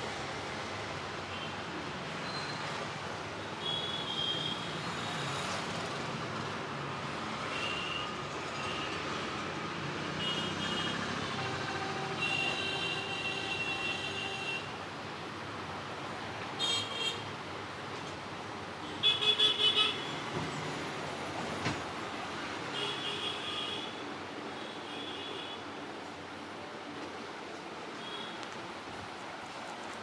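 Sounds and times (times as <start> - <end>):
roadside traffic noise: 0.0 - 30.0.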